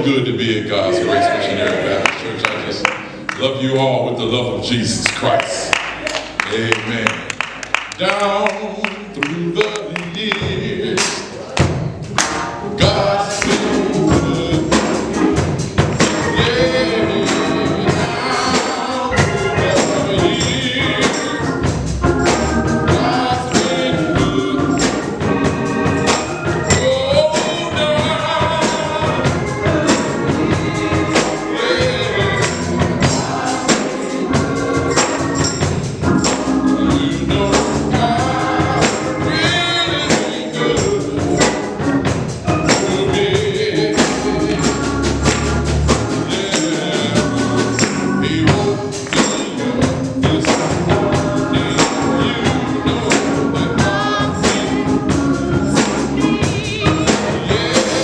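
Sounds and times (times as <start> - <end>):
singers with a choir: 0.0 - 3.3, 12.5 - 58.0
band with steady percussion: 4.7 - 58.0.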